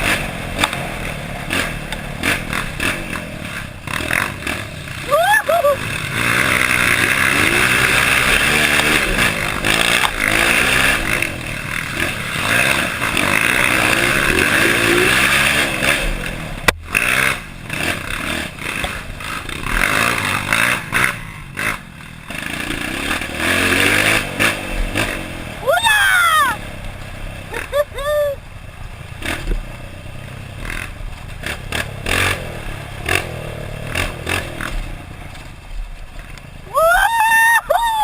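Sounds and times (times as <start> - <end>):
dirt bike engine revving: 0.0 - 35.5.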